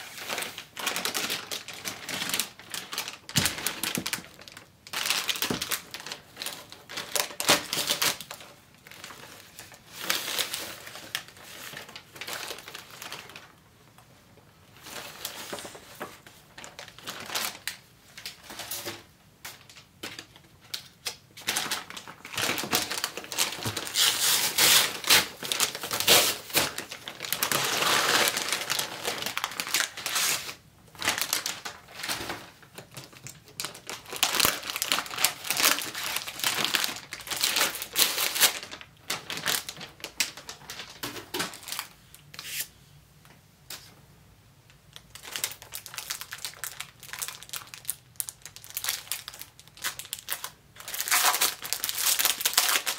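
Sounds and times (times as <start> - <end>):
plastic packaging rustling: 0.0 - 42.7, 44.9 - 52.9.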